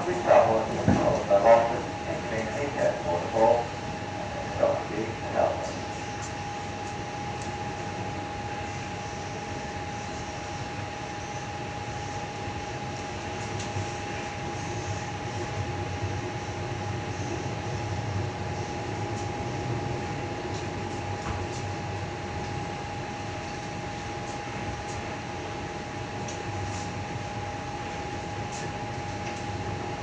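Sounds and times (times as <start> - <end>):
electric train rumble and hum: 0.0 - 30.0
high whine: 0.0 - 30.0.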